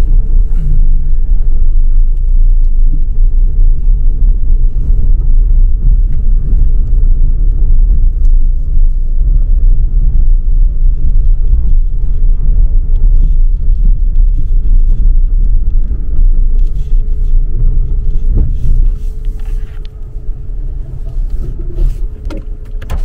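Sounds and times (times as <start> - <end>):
car rumbling on dirt track: 0.0 - 23.0.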